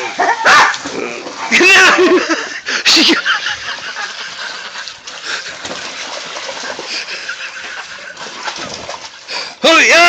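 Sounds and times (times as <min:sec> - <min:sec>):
water splashing in a pool: 0:00.0 - 0:10.0.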